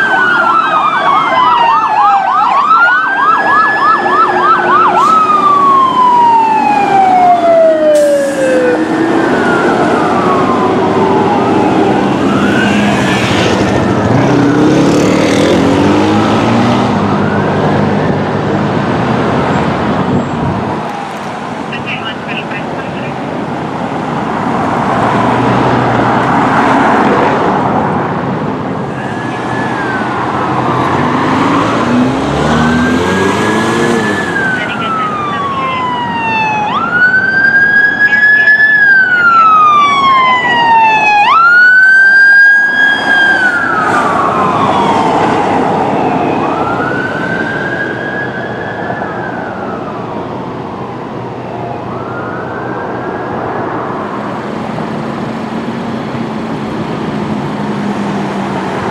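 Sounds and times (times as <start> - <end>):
emergency siren wailing: 0.0 - 58.9
passing traffic noise: 0.0 - 58.9.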